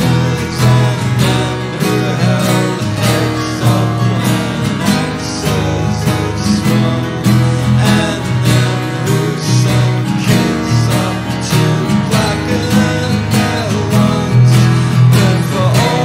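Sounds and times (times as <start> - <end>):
strummed acoustic guitar: 0.0 - 16.0.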